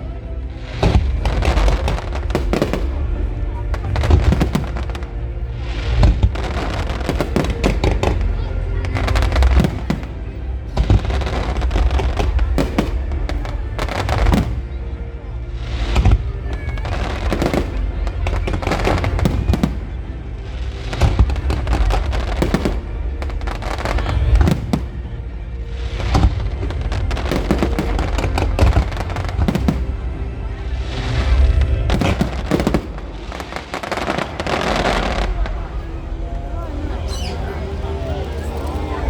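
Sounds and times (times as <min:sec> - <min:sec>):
music playing: 0:00.0 - 0:39.0
fireworks bursting with bangs: 0:00.6 - 0:15.0, 0:15.6 - 0:35.9.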